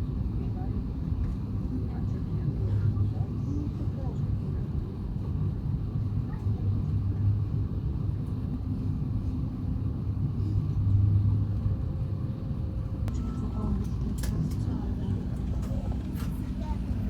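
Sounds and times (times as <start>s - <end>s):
airplane cabin rumble: 0.0s - 17.0s
jet engines idling hum: 0.0s - 17.0s.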